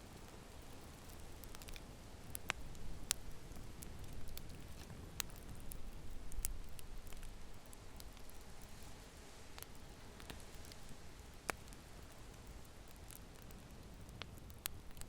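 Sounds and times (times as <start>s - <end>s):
fire crackling and popping: 0.0s - 15.0s
low rumble of burning fire: 0.0s - 15.0s.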